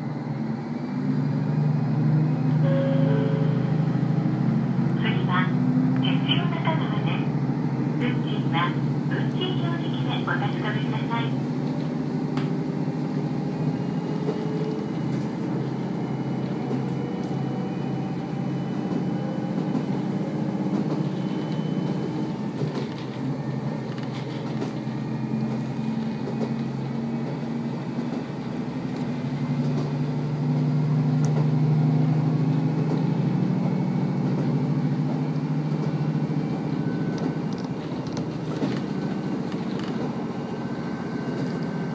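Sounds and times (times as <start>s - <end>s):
diesel engine drone: 0.0s - 41.9s
wheel and rail running noise: 0.0s - 41.9s.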